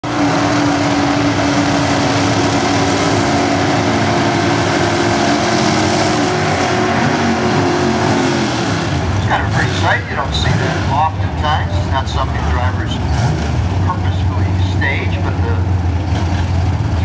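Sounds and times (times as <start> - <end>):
car engine at steady revs: 0.0 - 17.0.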